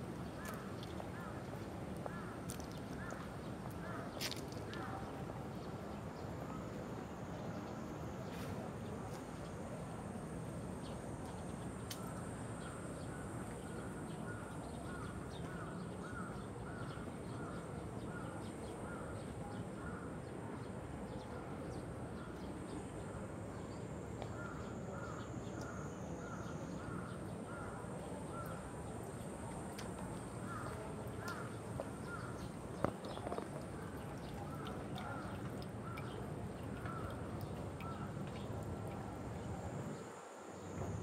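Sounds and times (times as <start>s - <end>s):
outdoor background hum: 0.0s - 41.0s.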